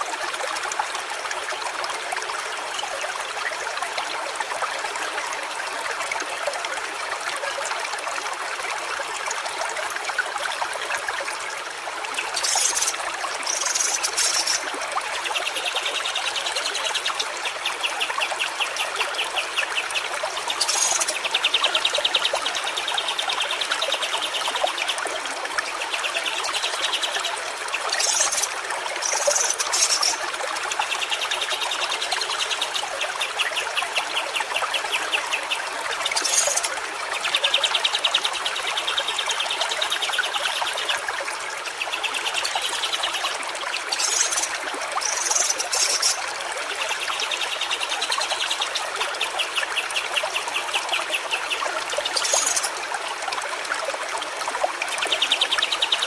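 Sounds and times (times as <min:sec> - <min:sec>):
stream water babbling: 0:00.0 - 0:56.0.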